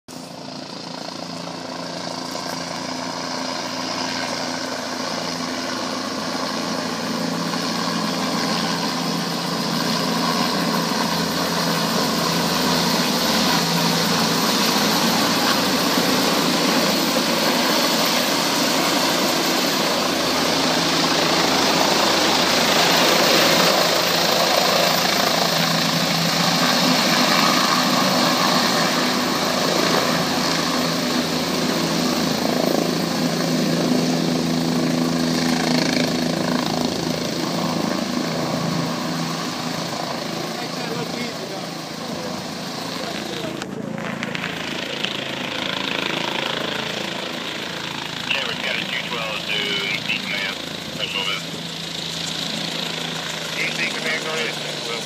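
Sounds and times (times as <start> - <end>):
helicopter rotor and engine: 0.1 - 55.0.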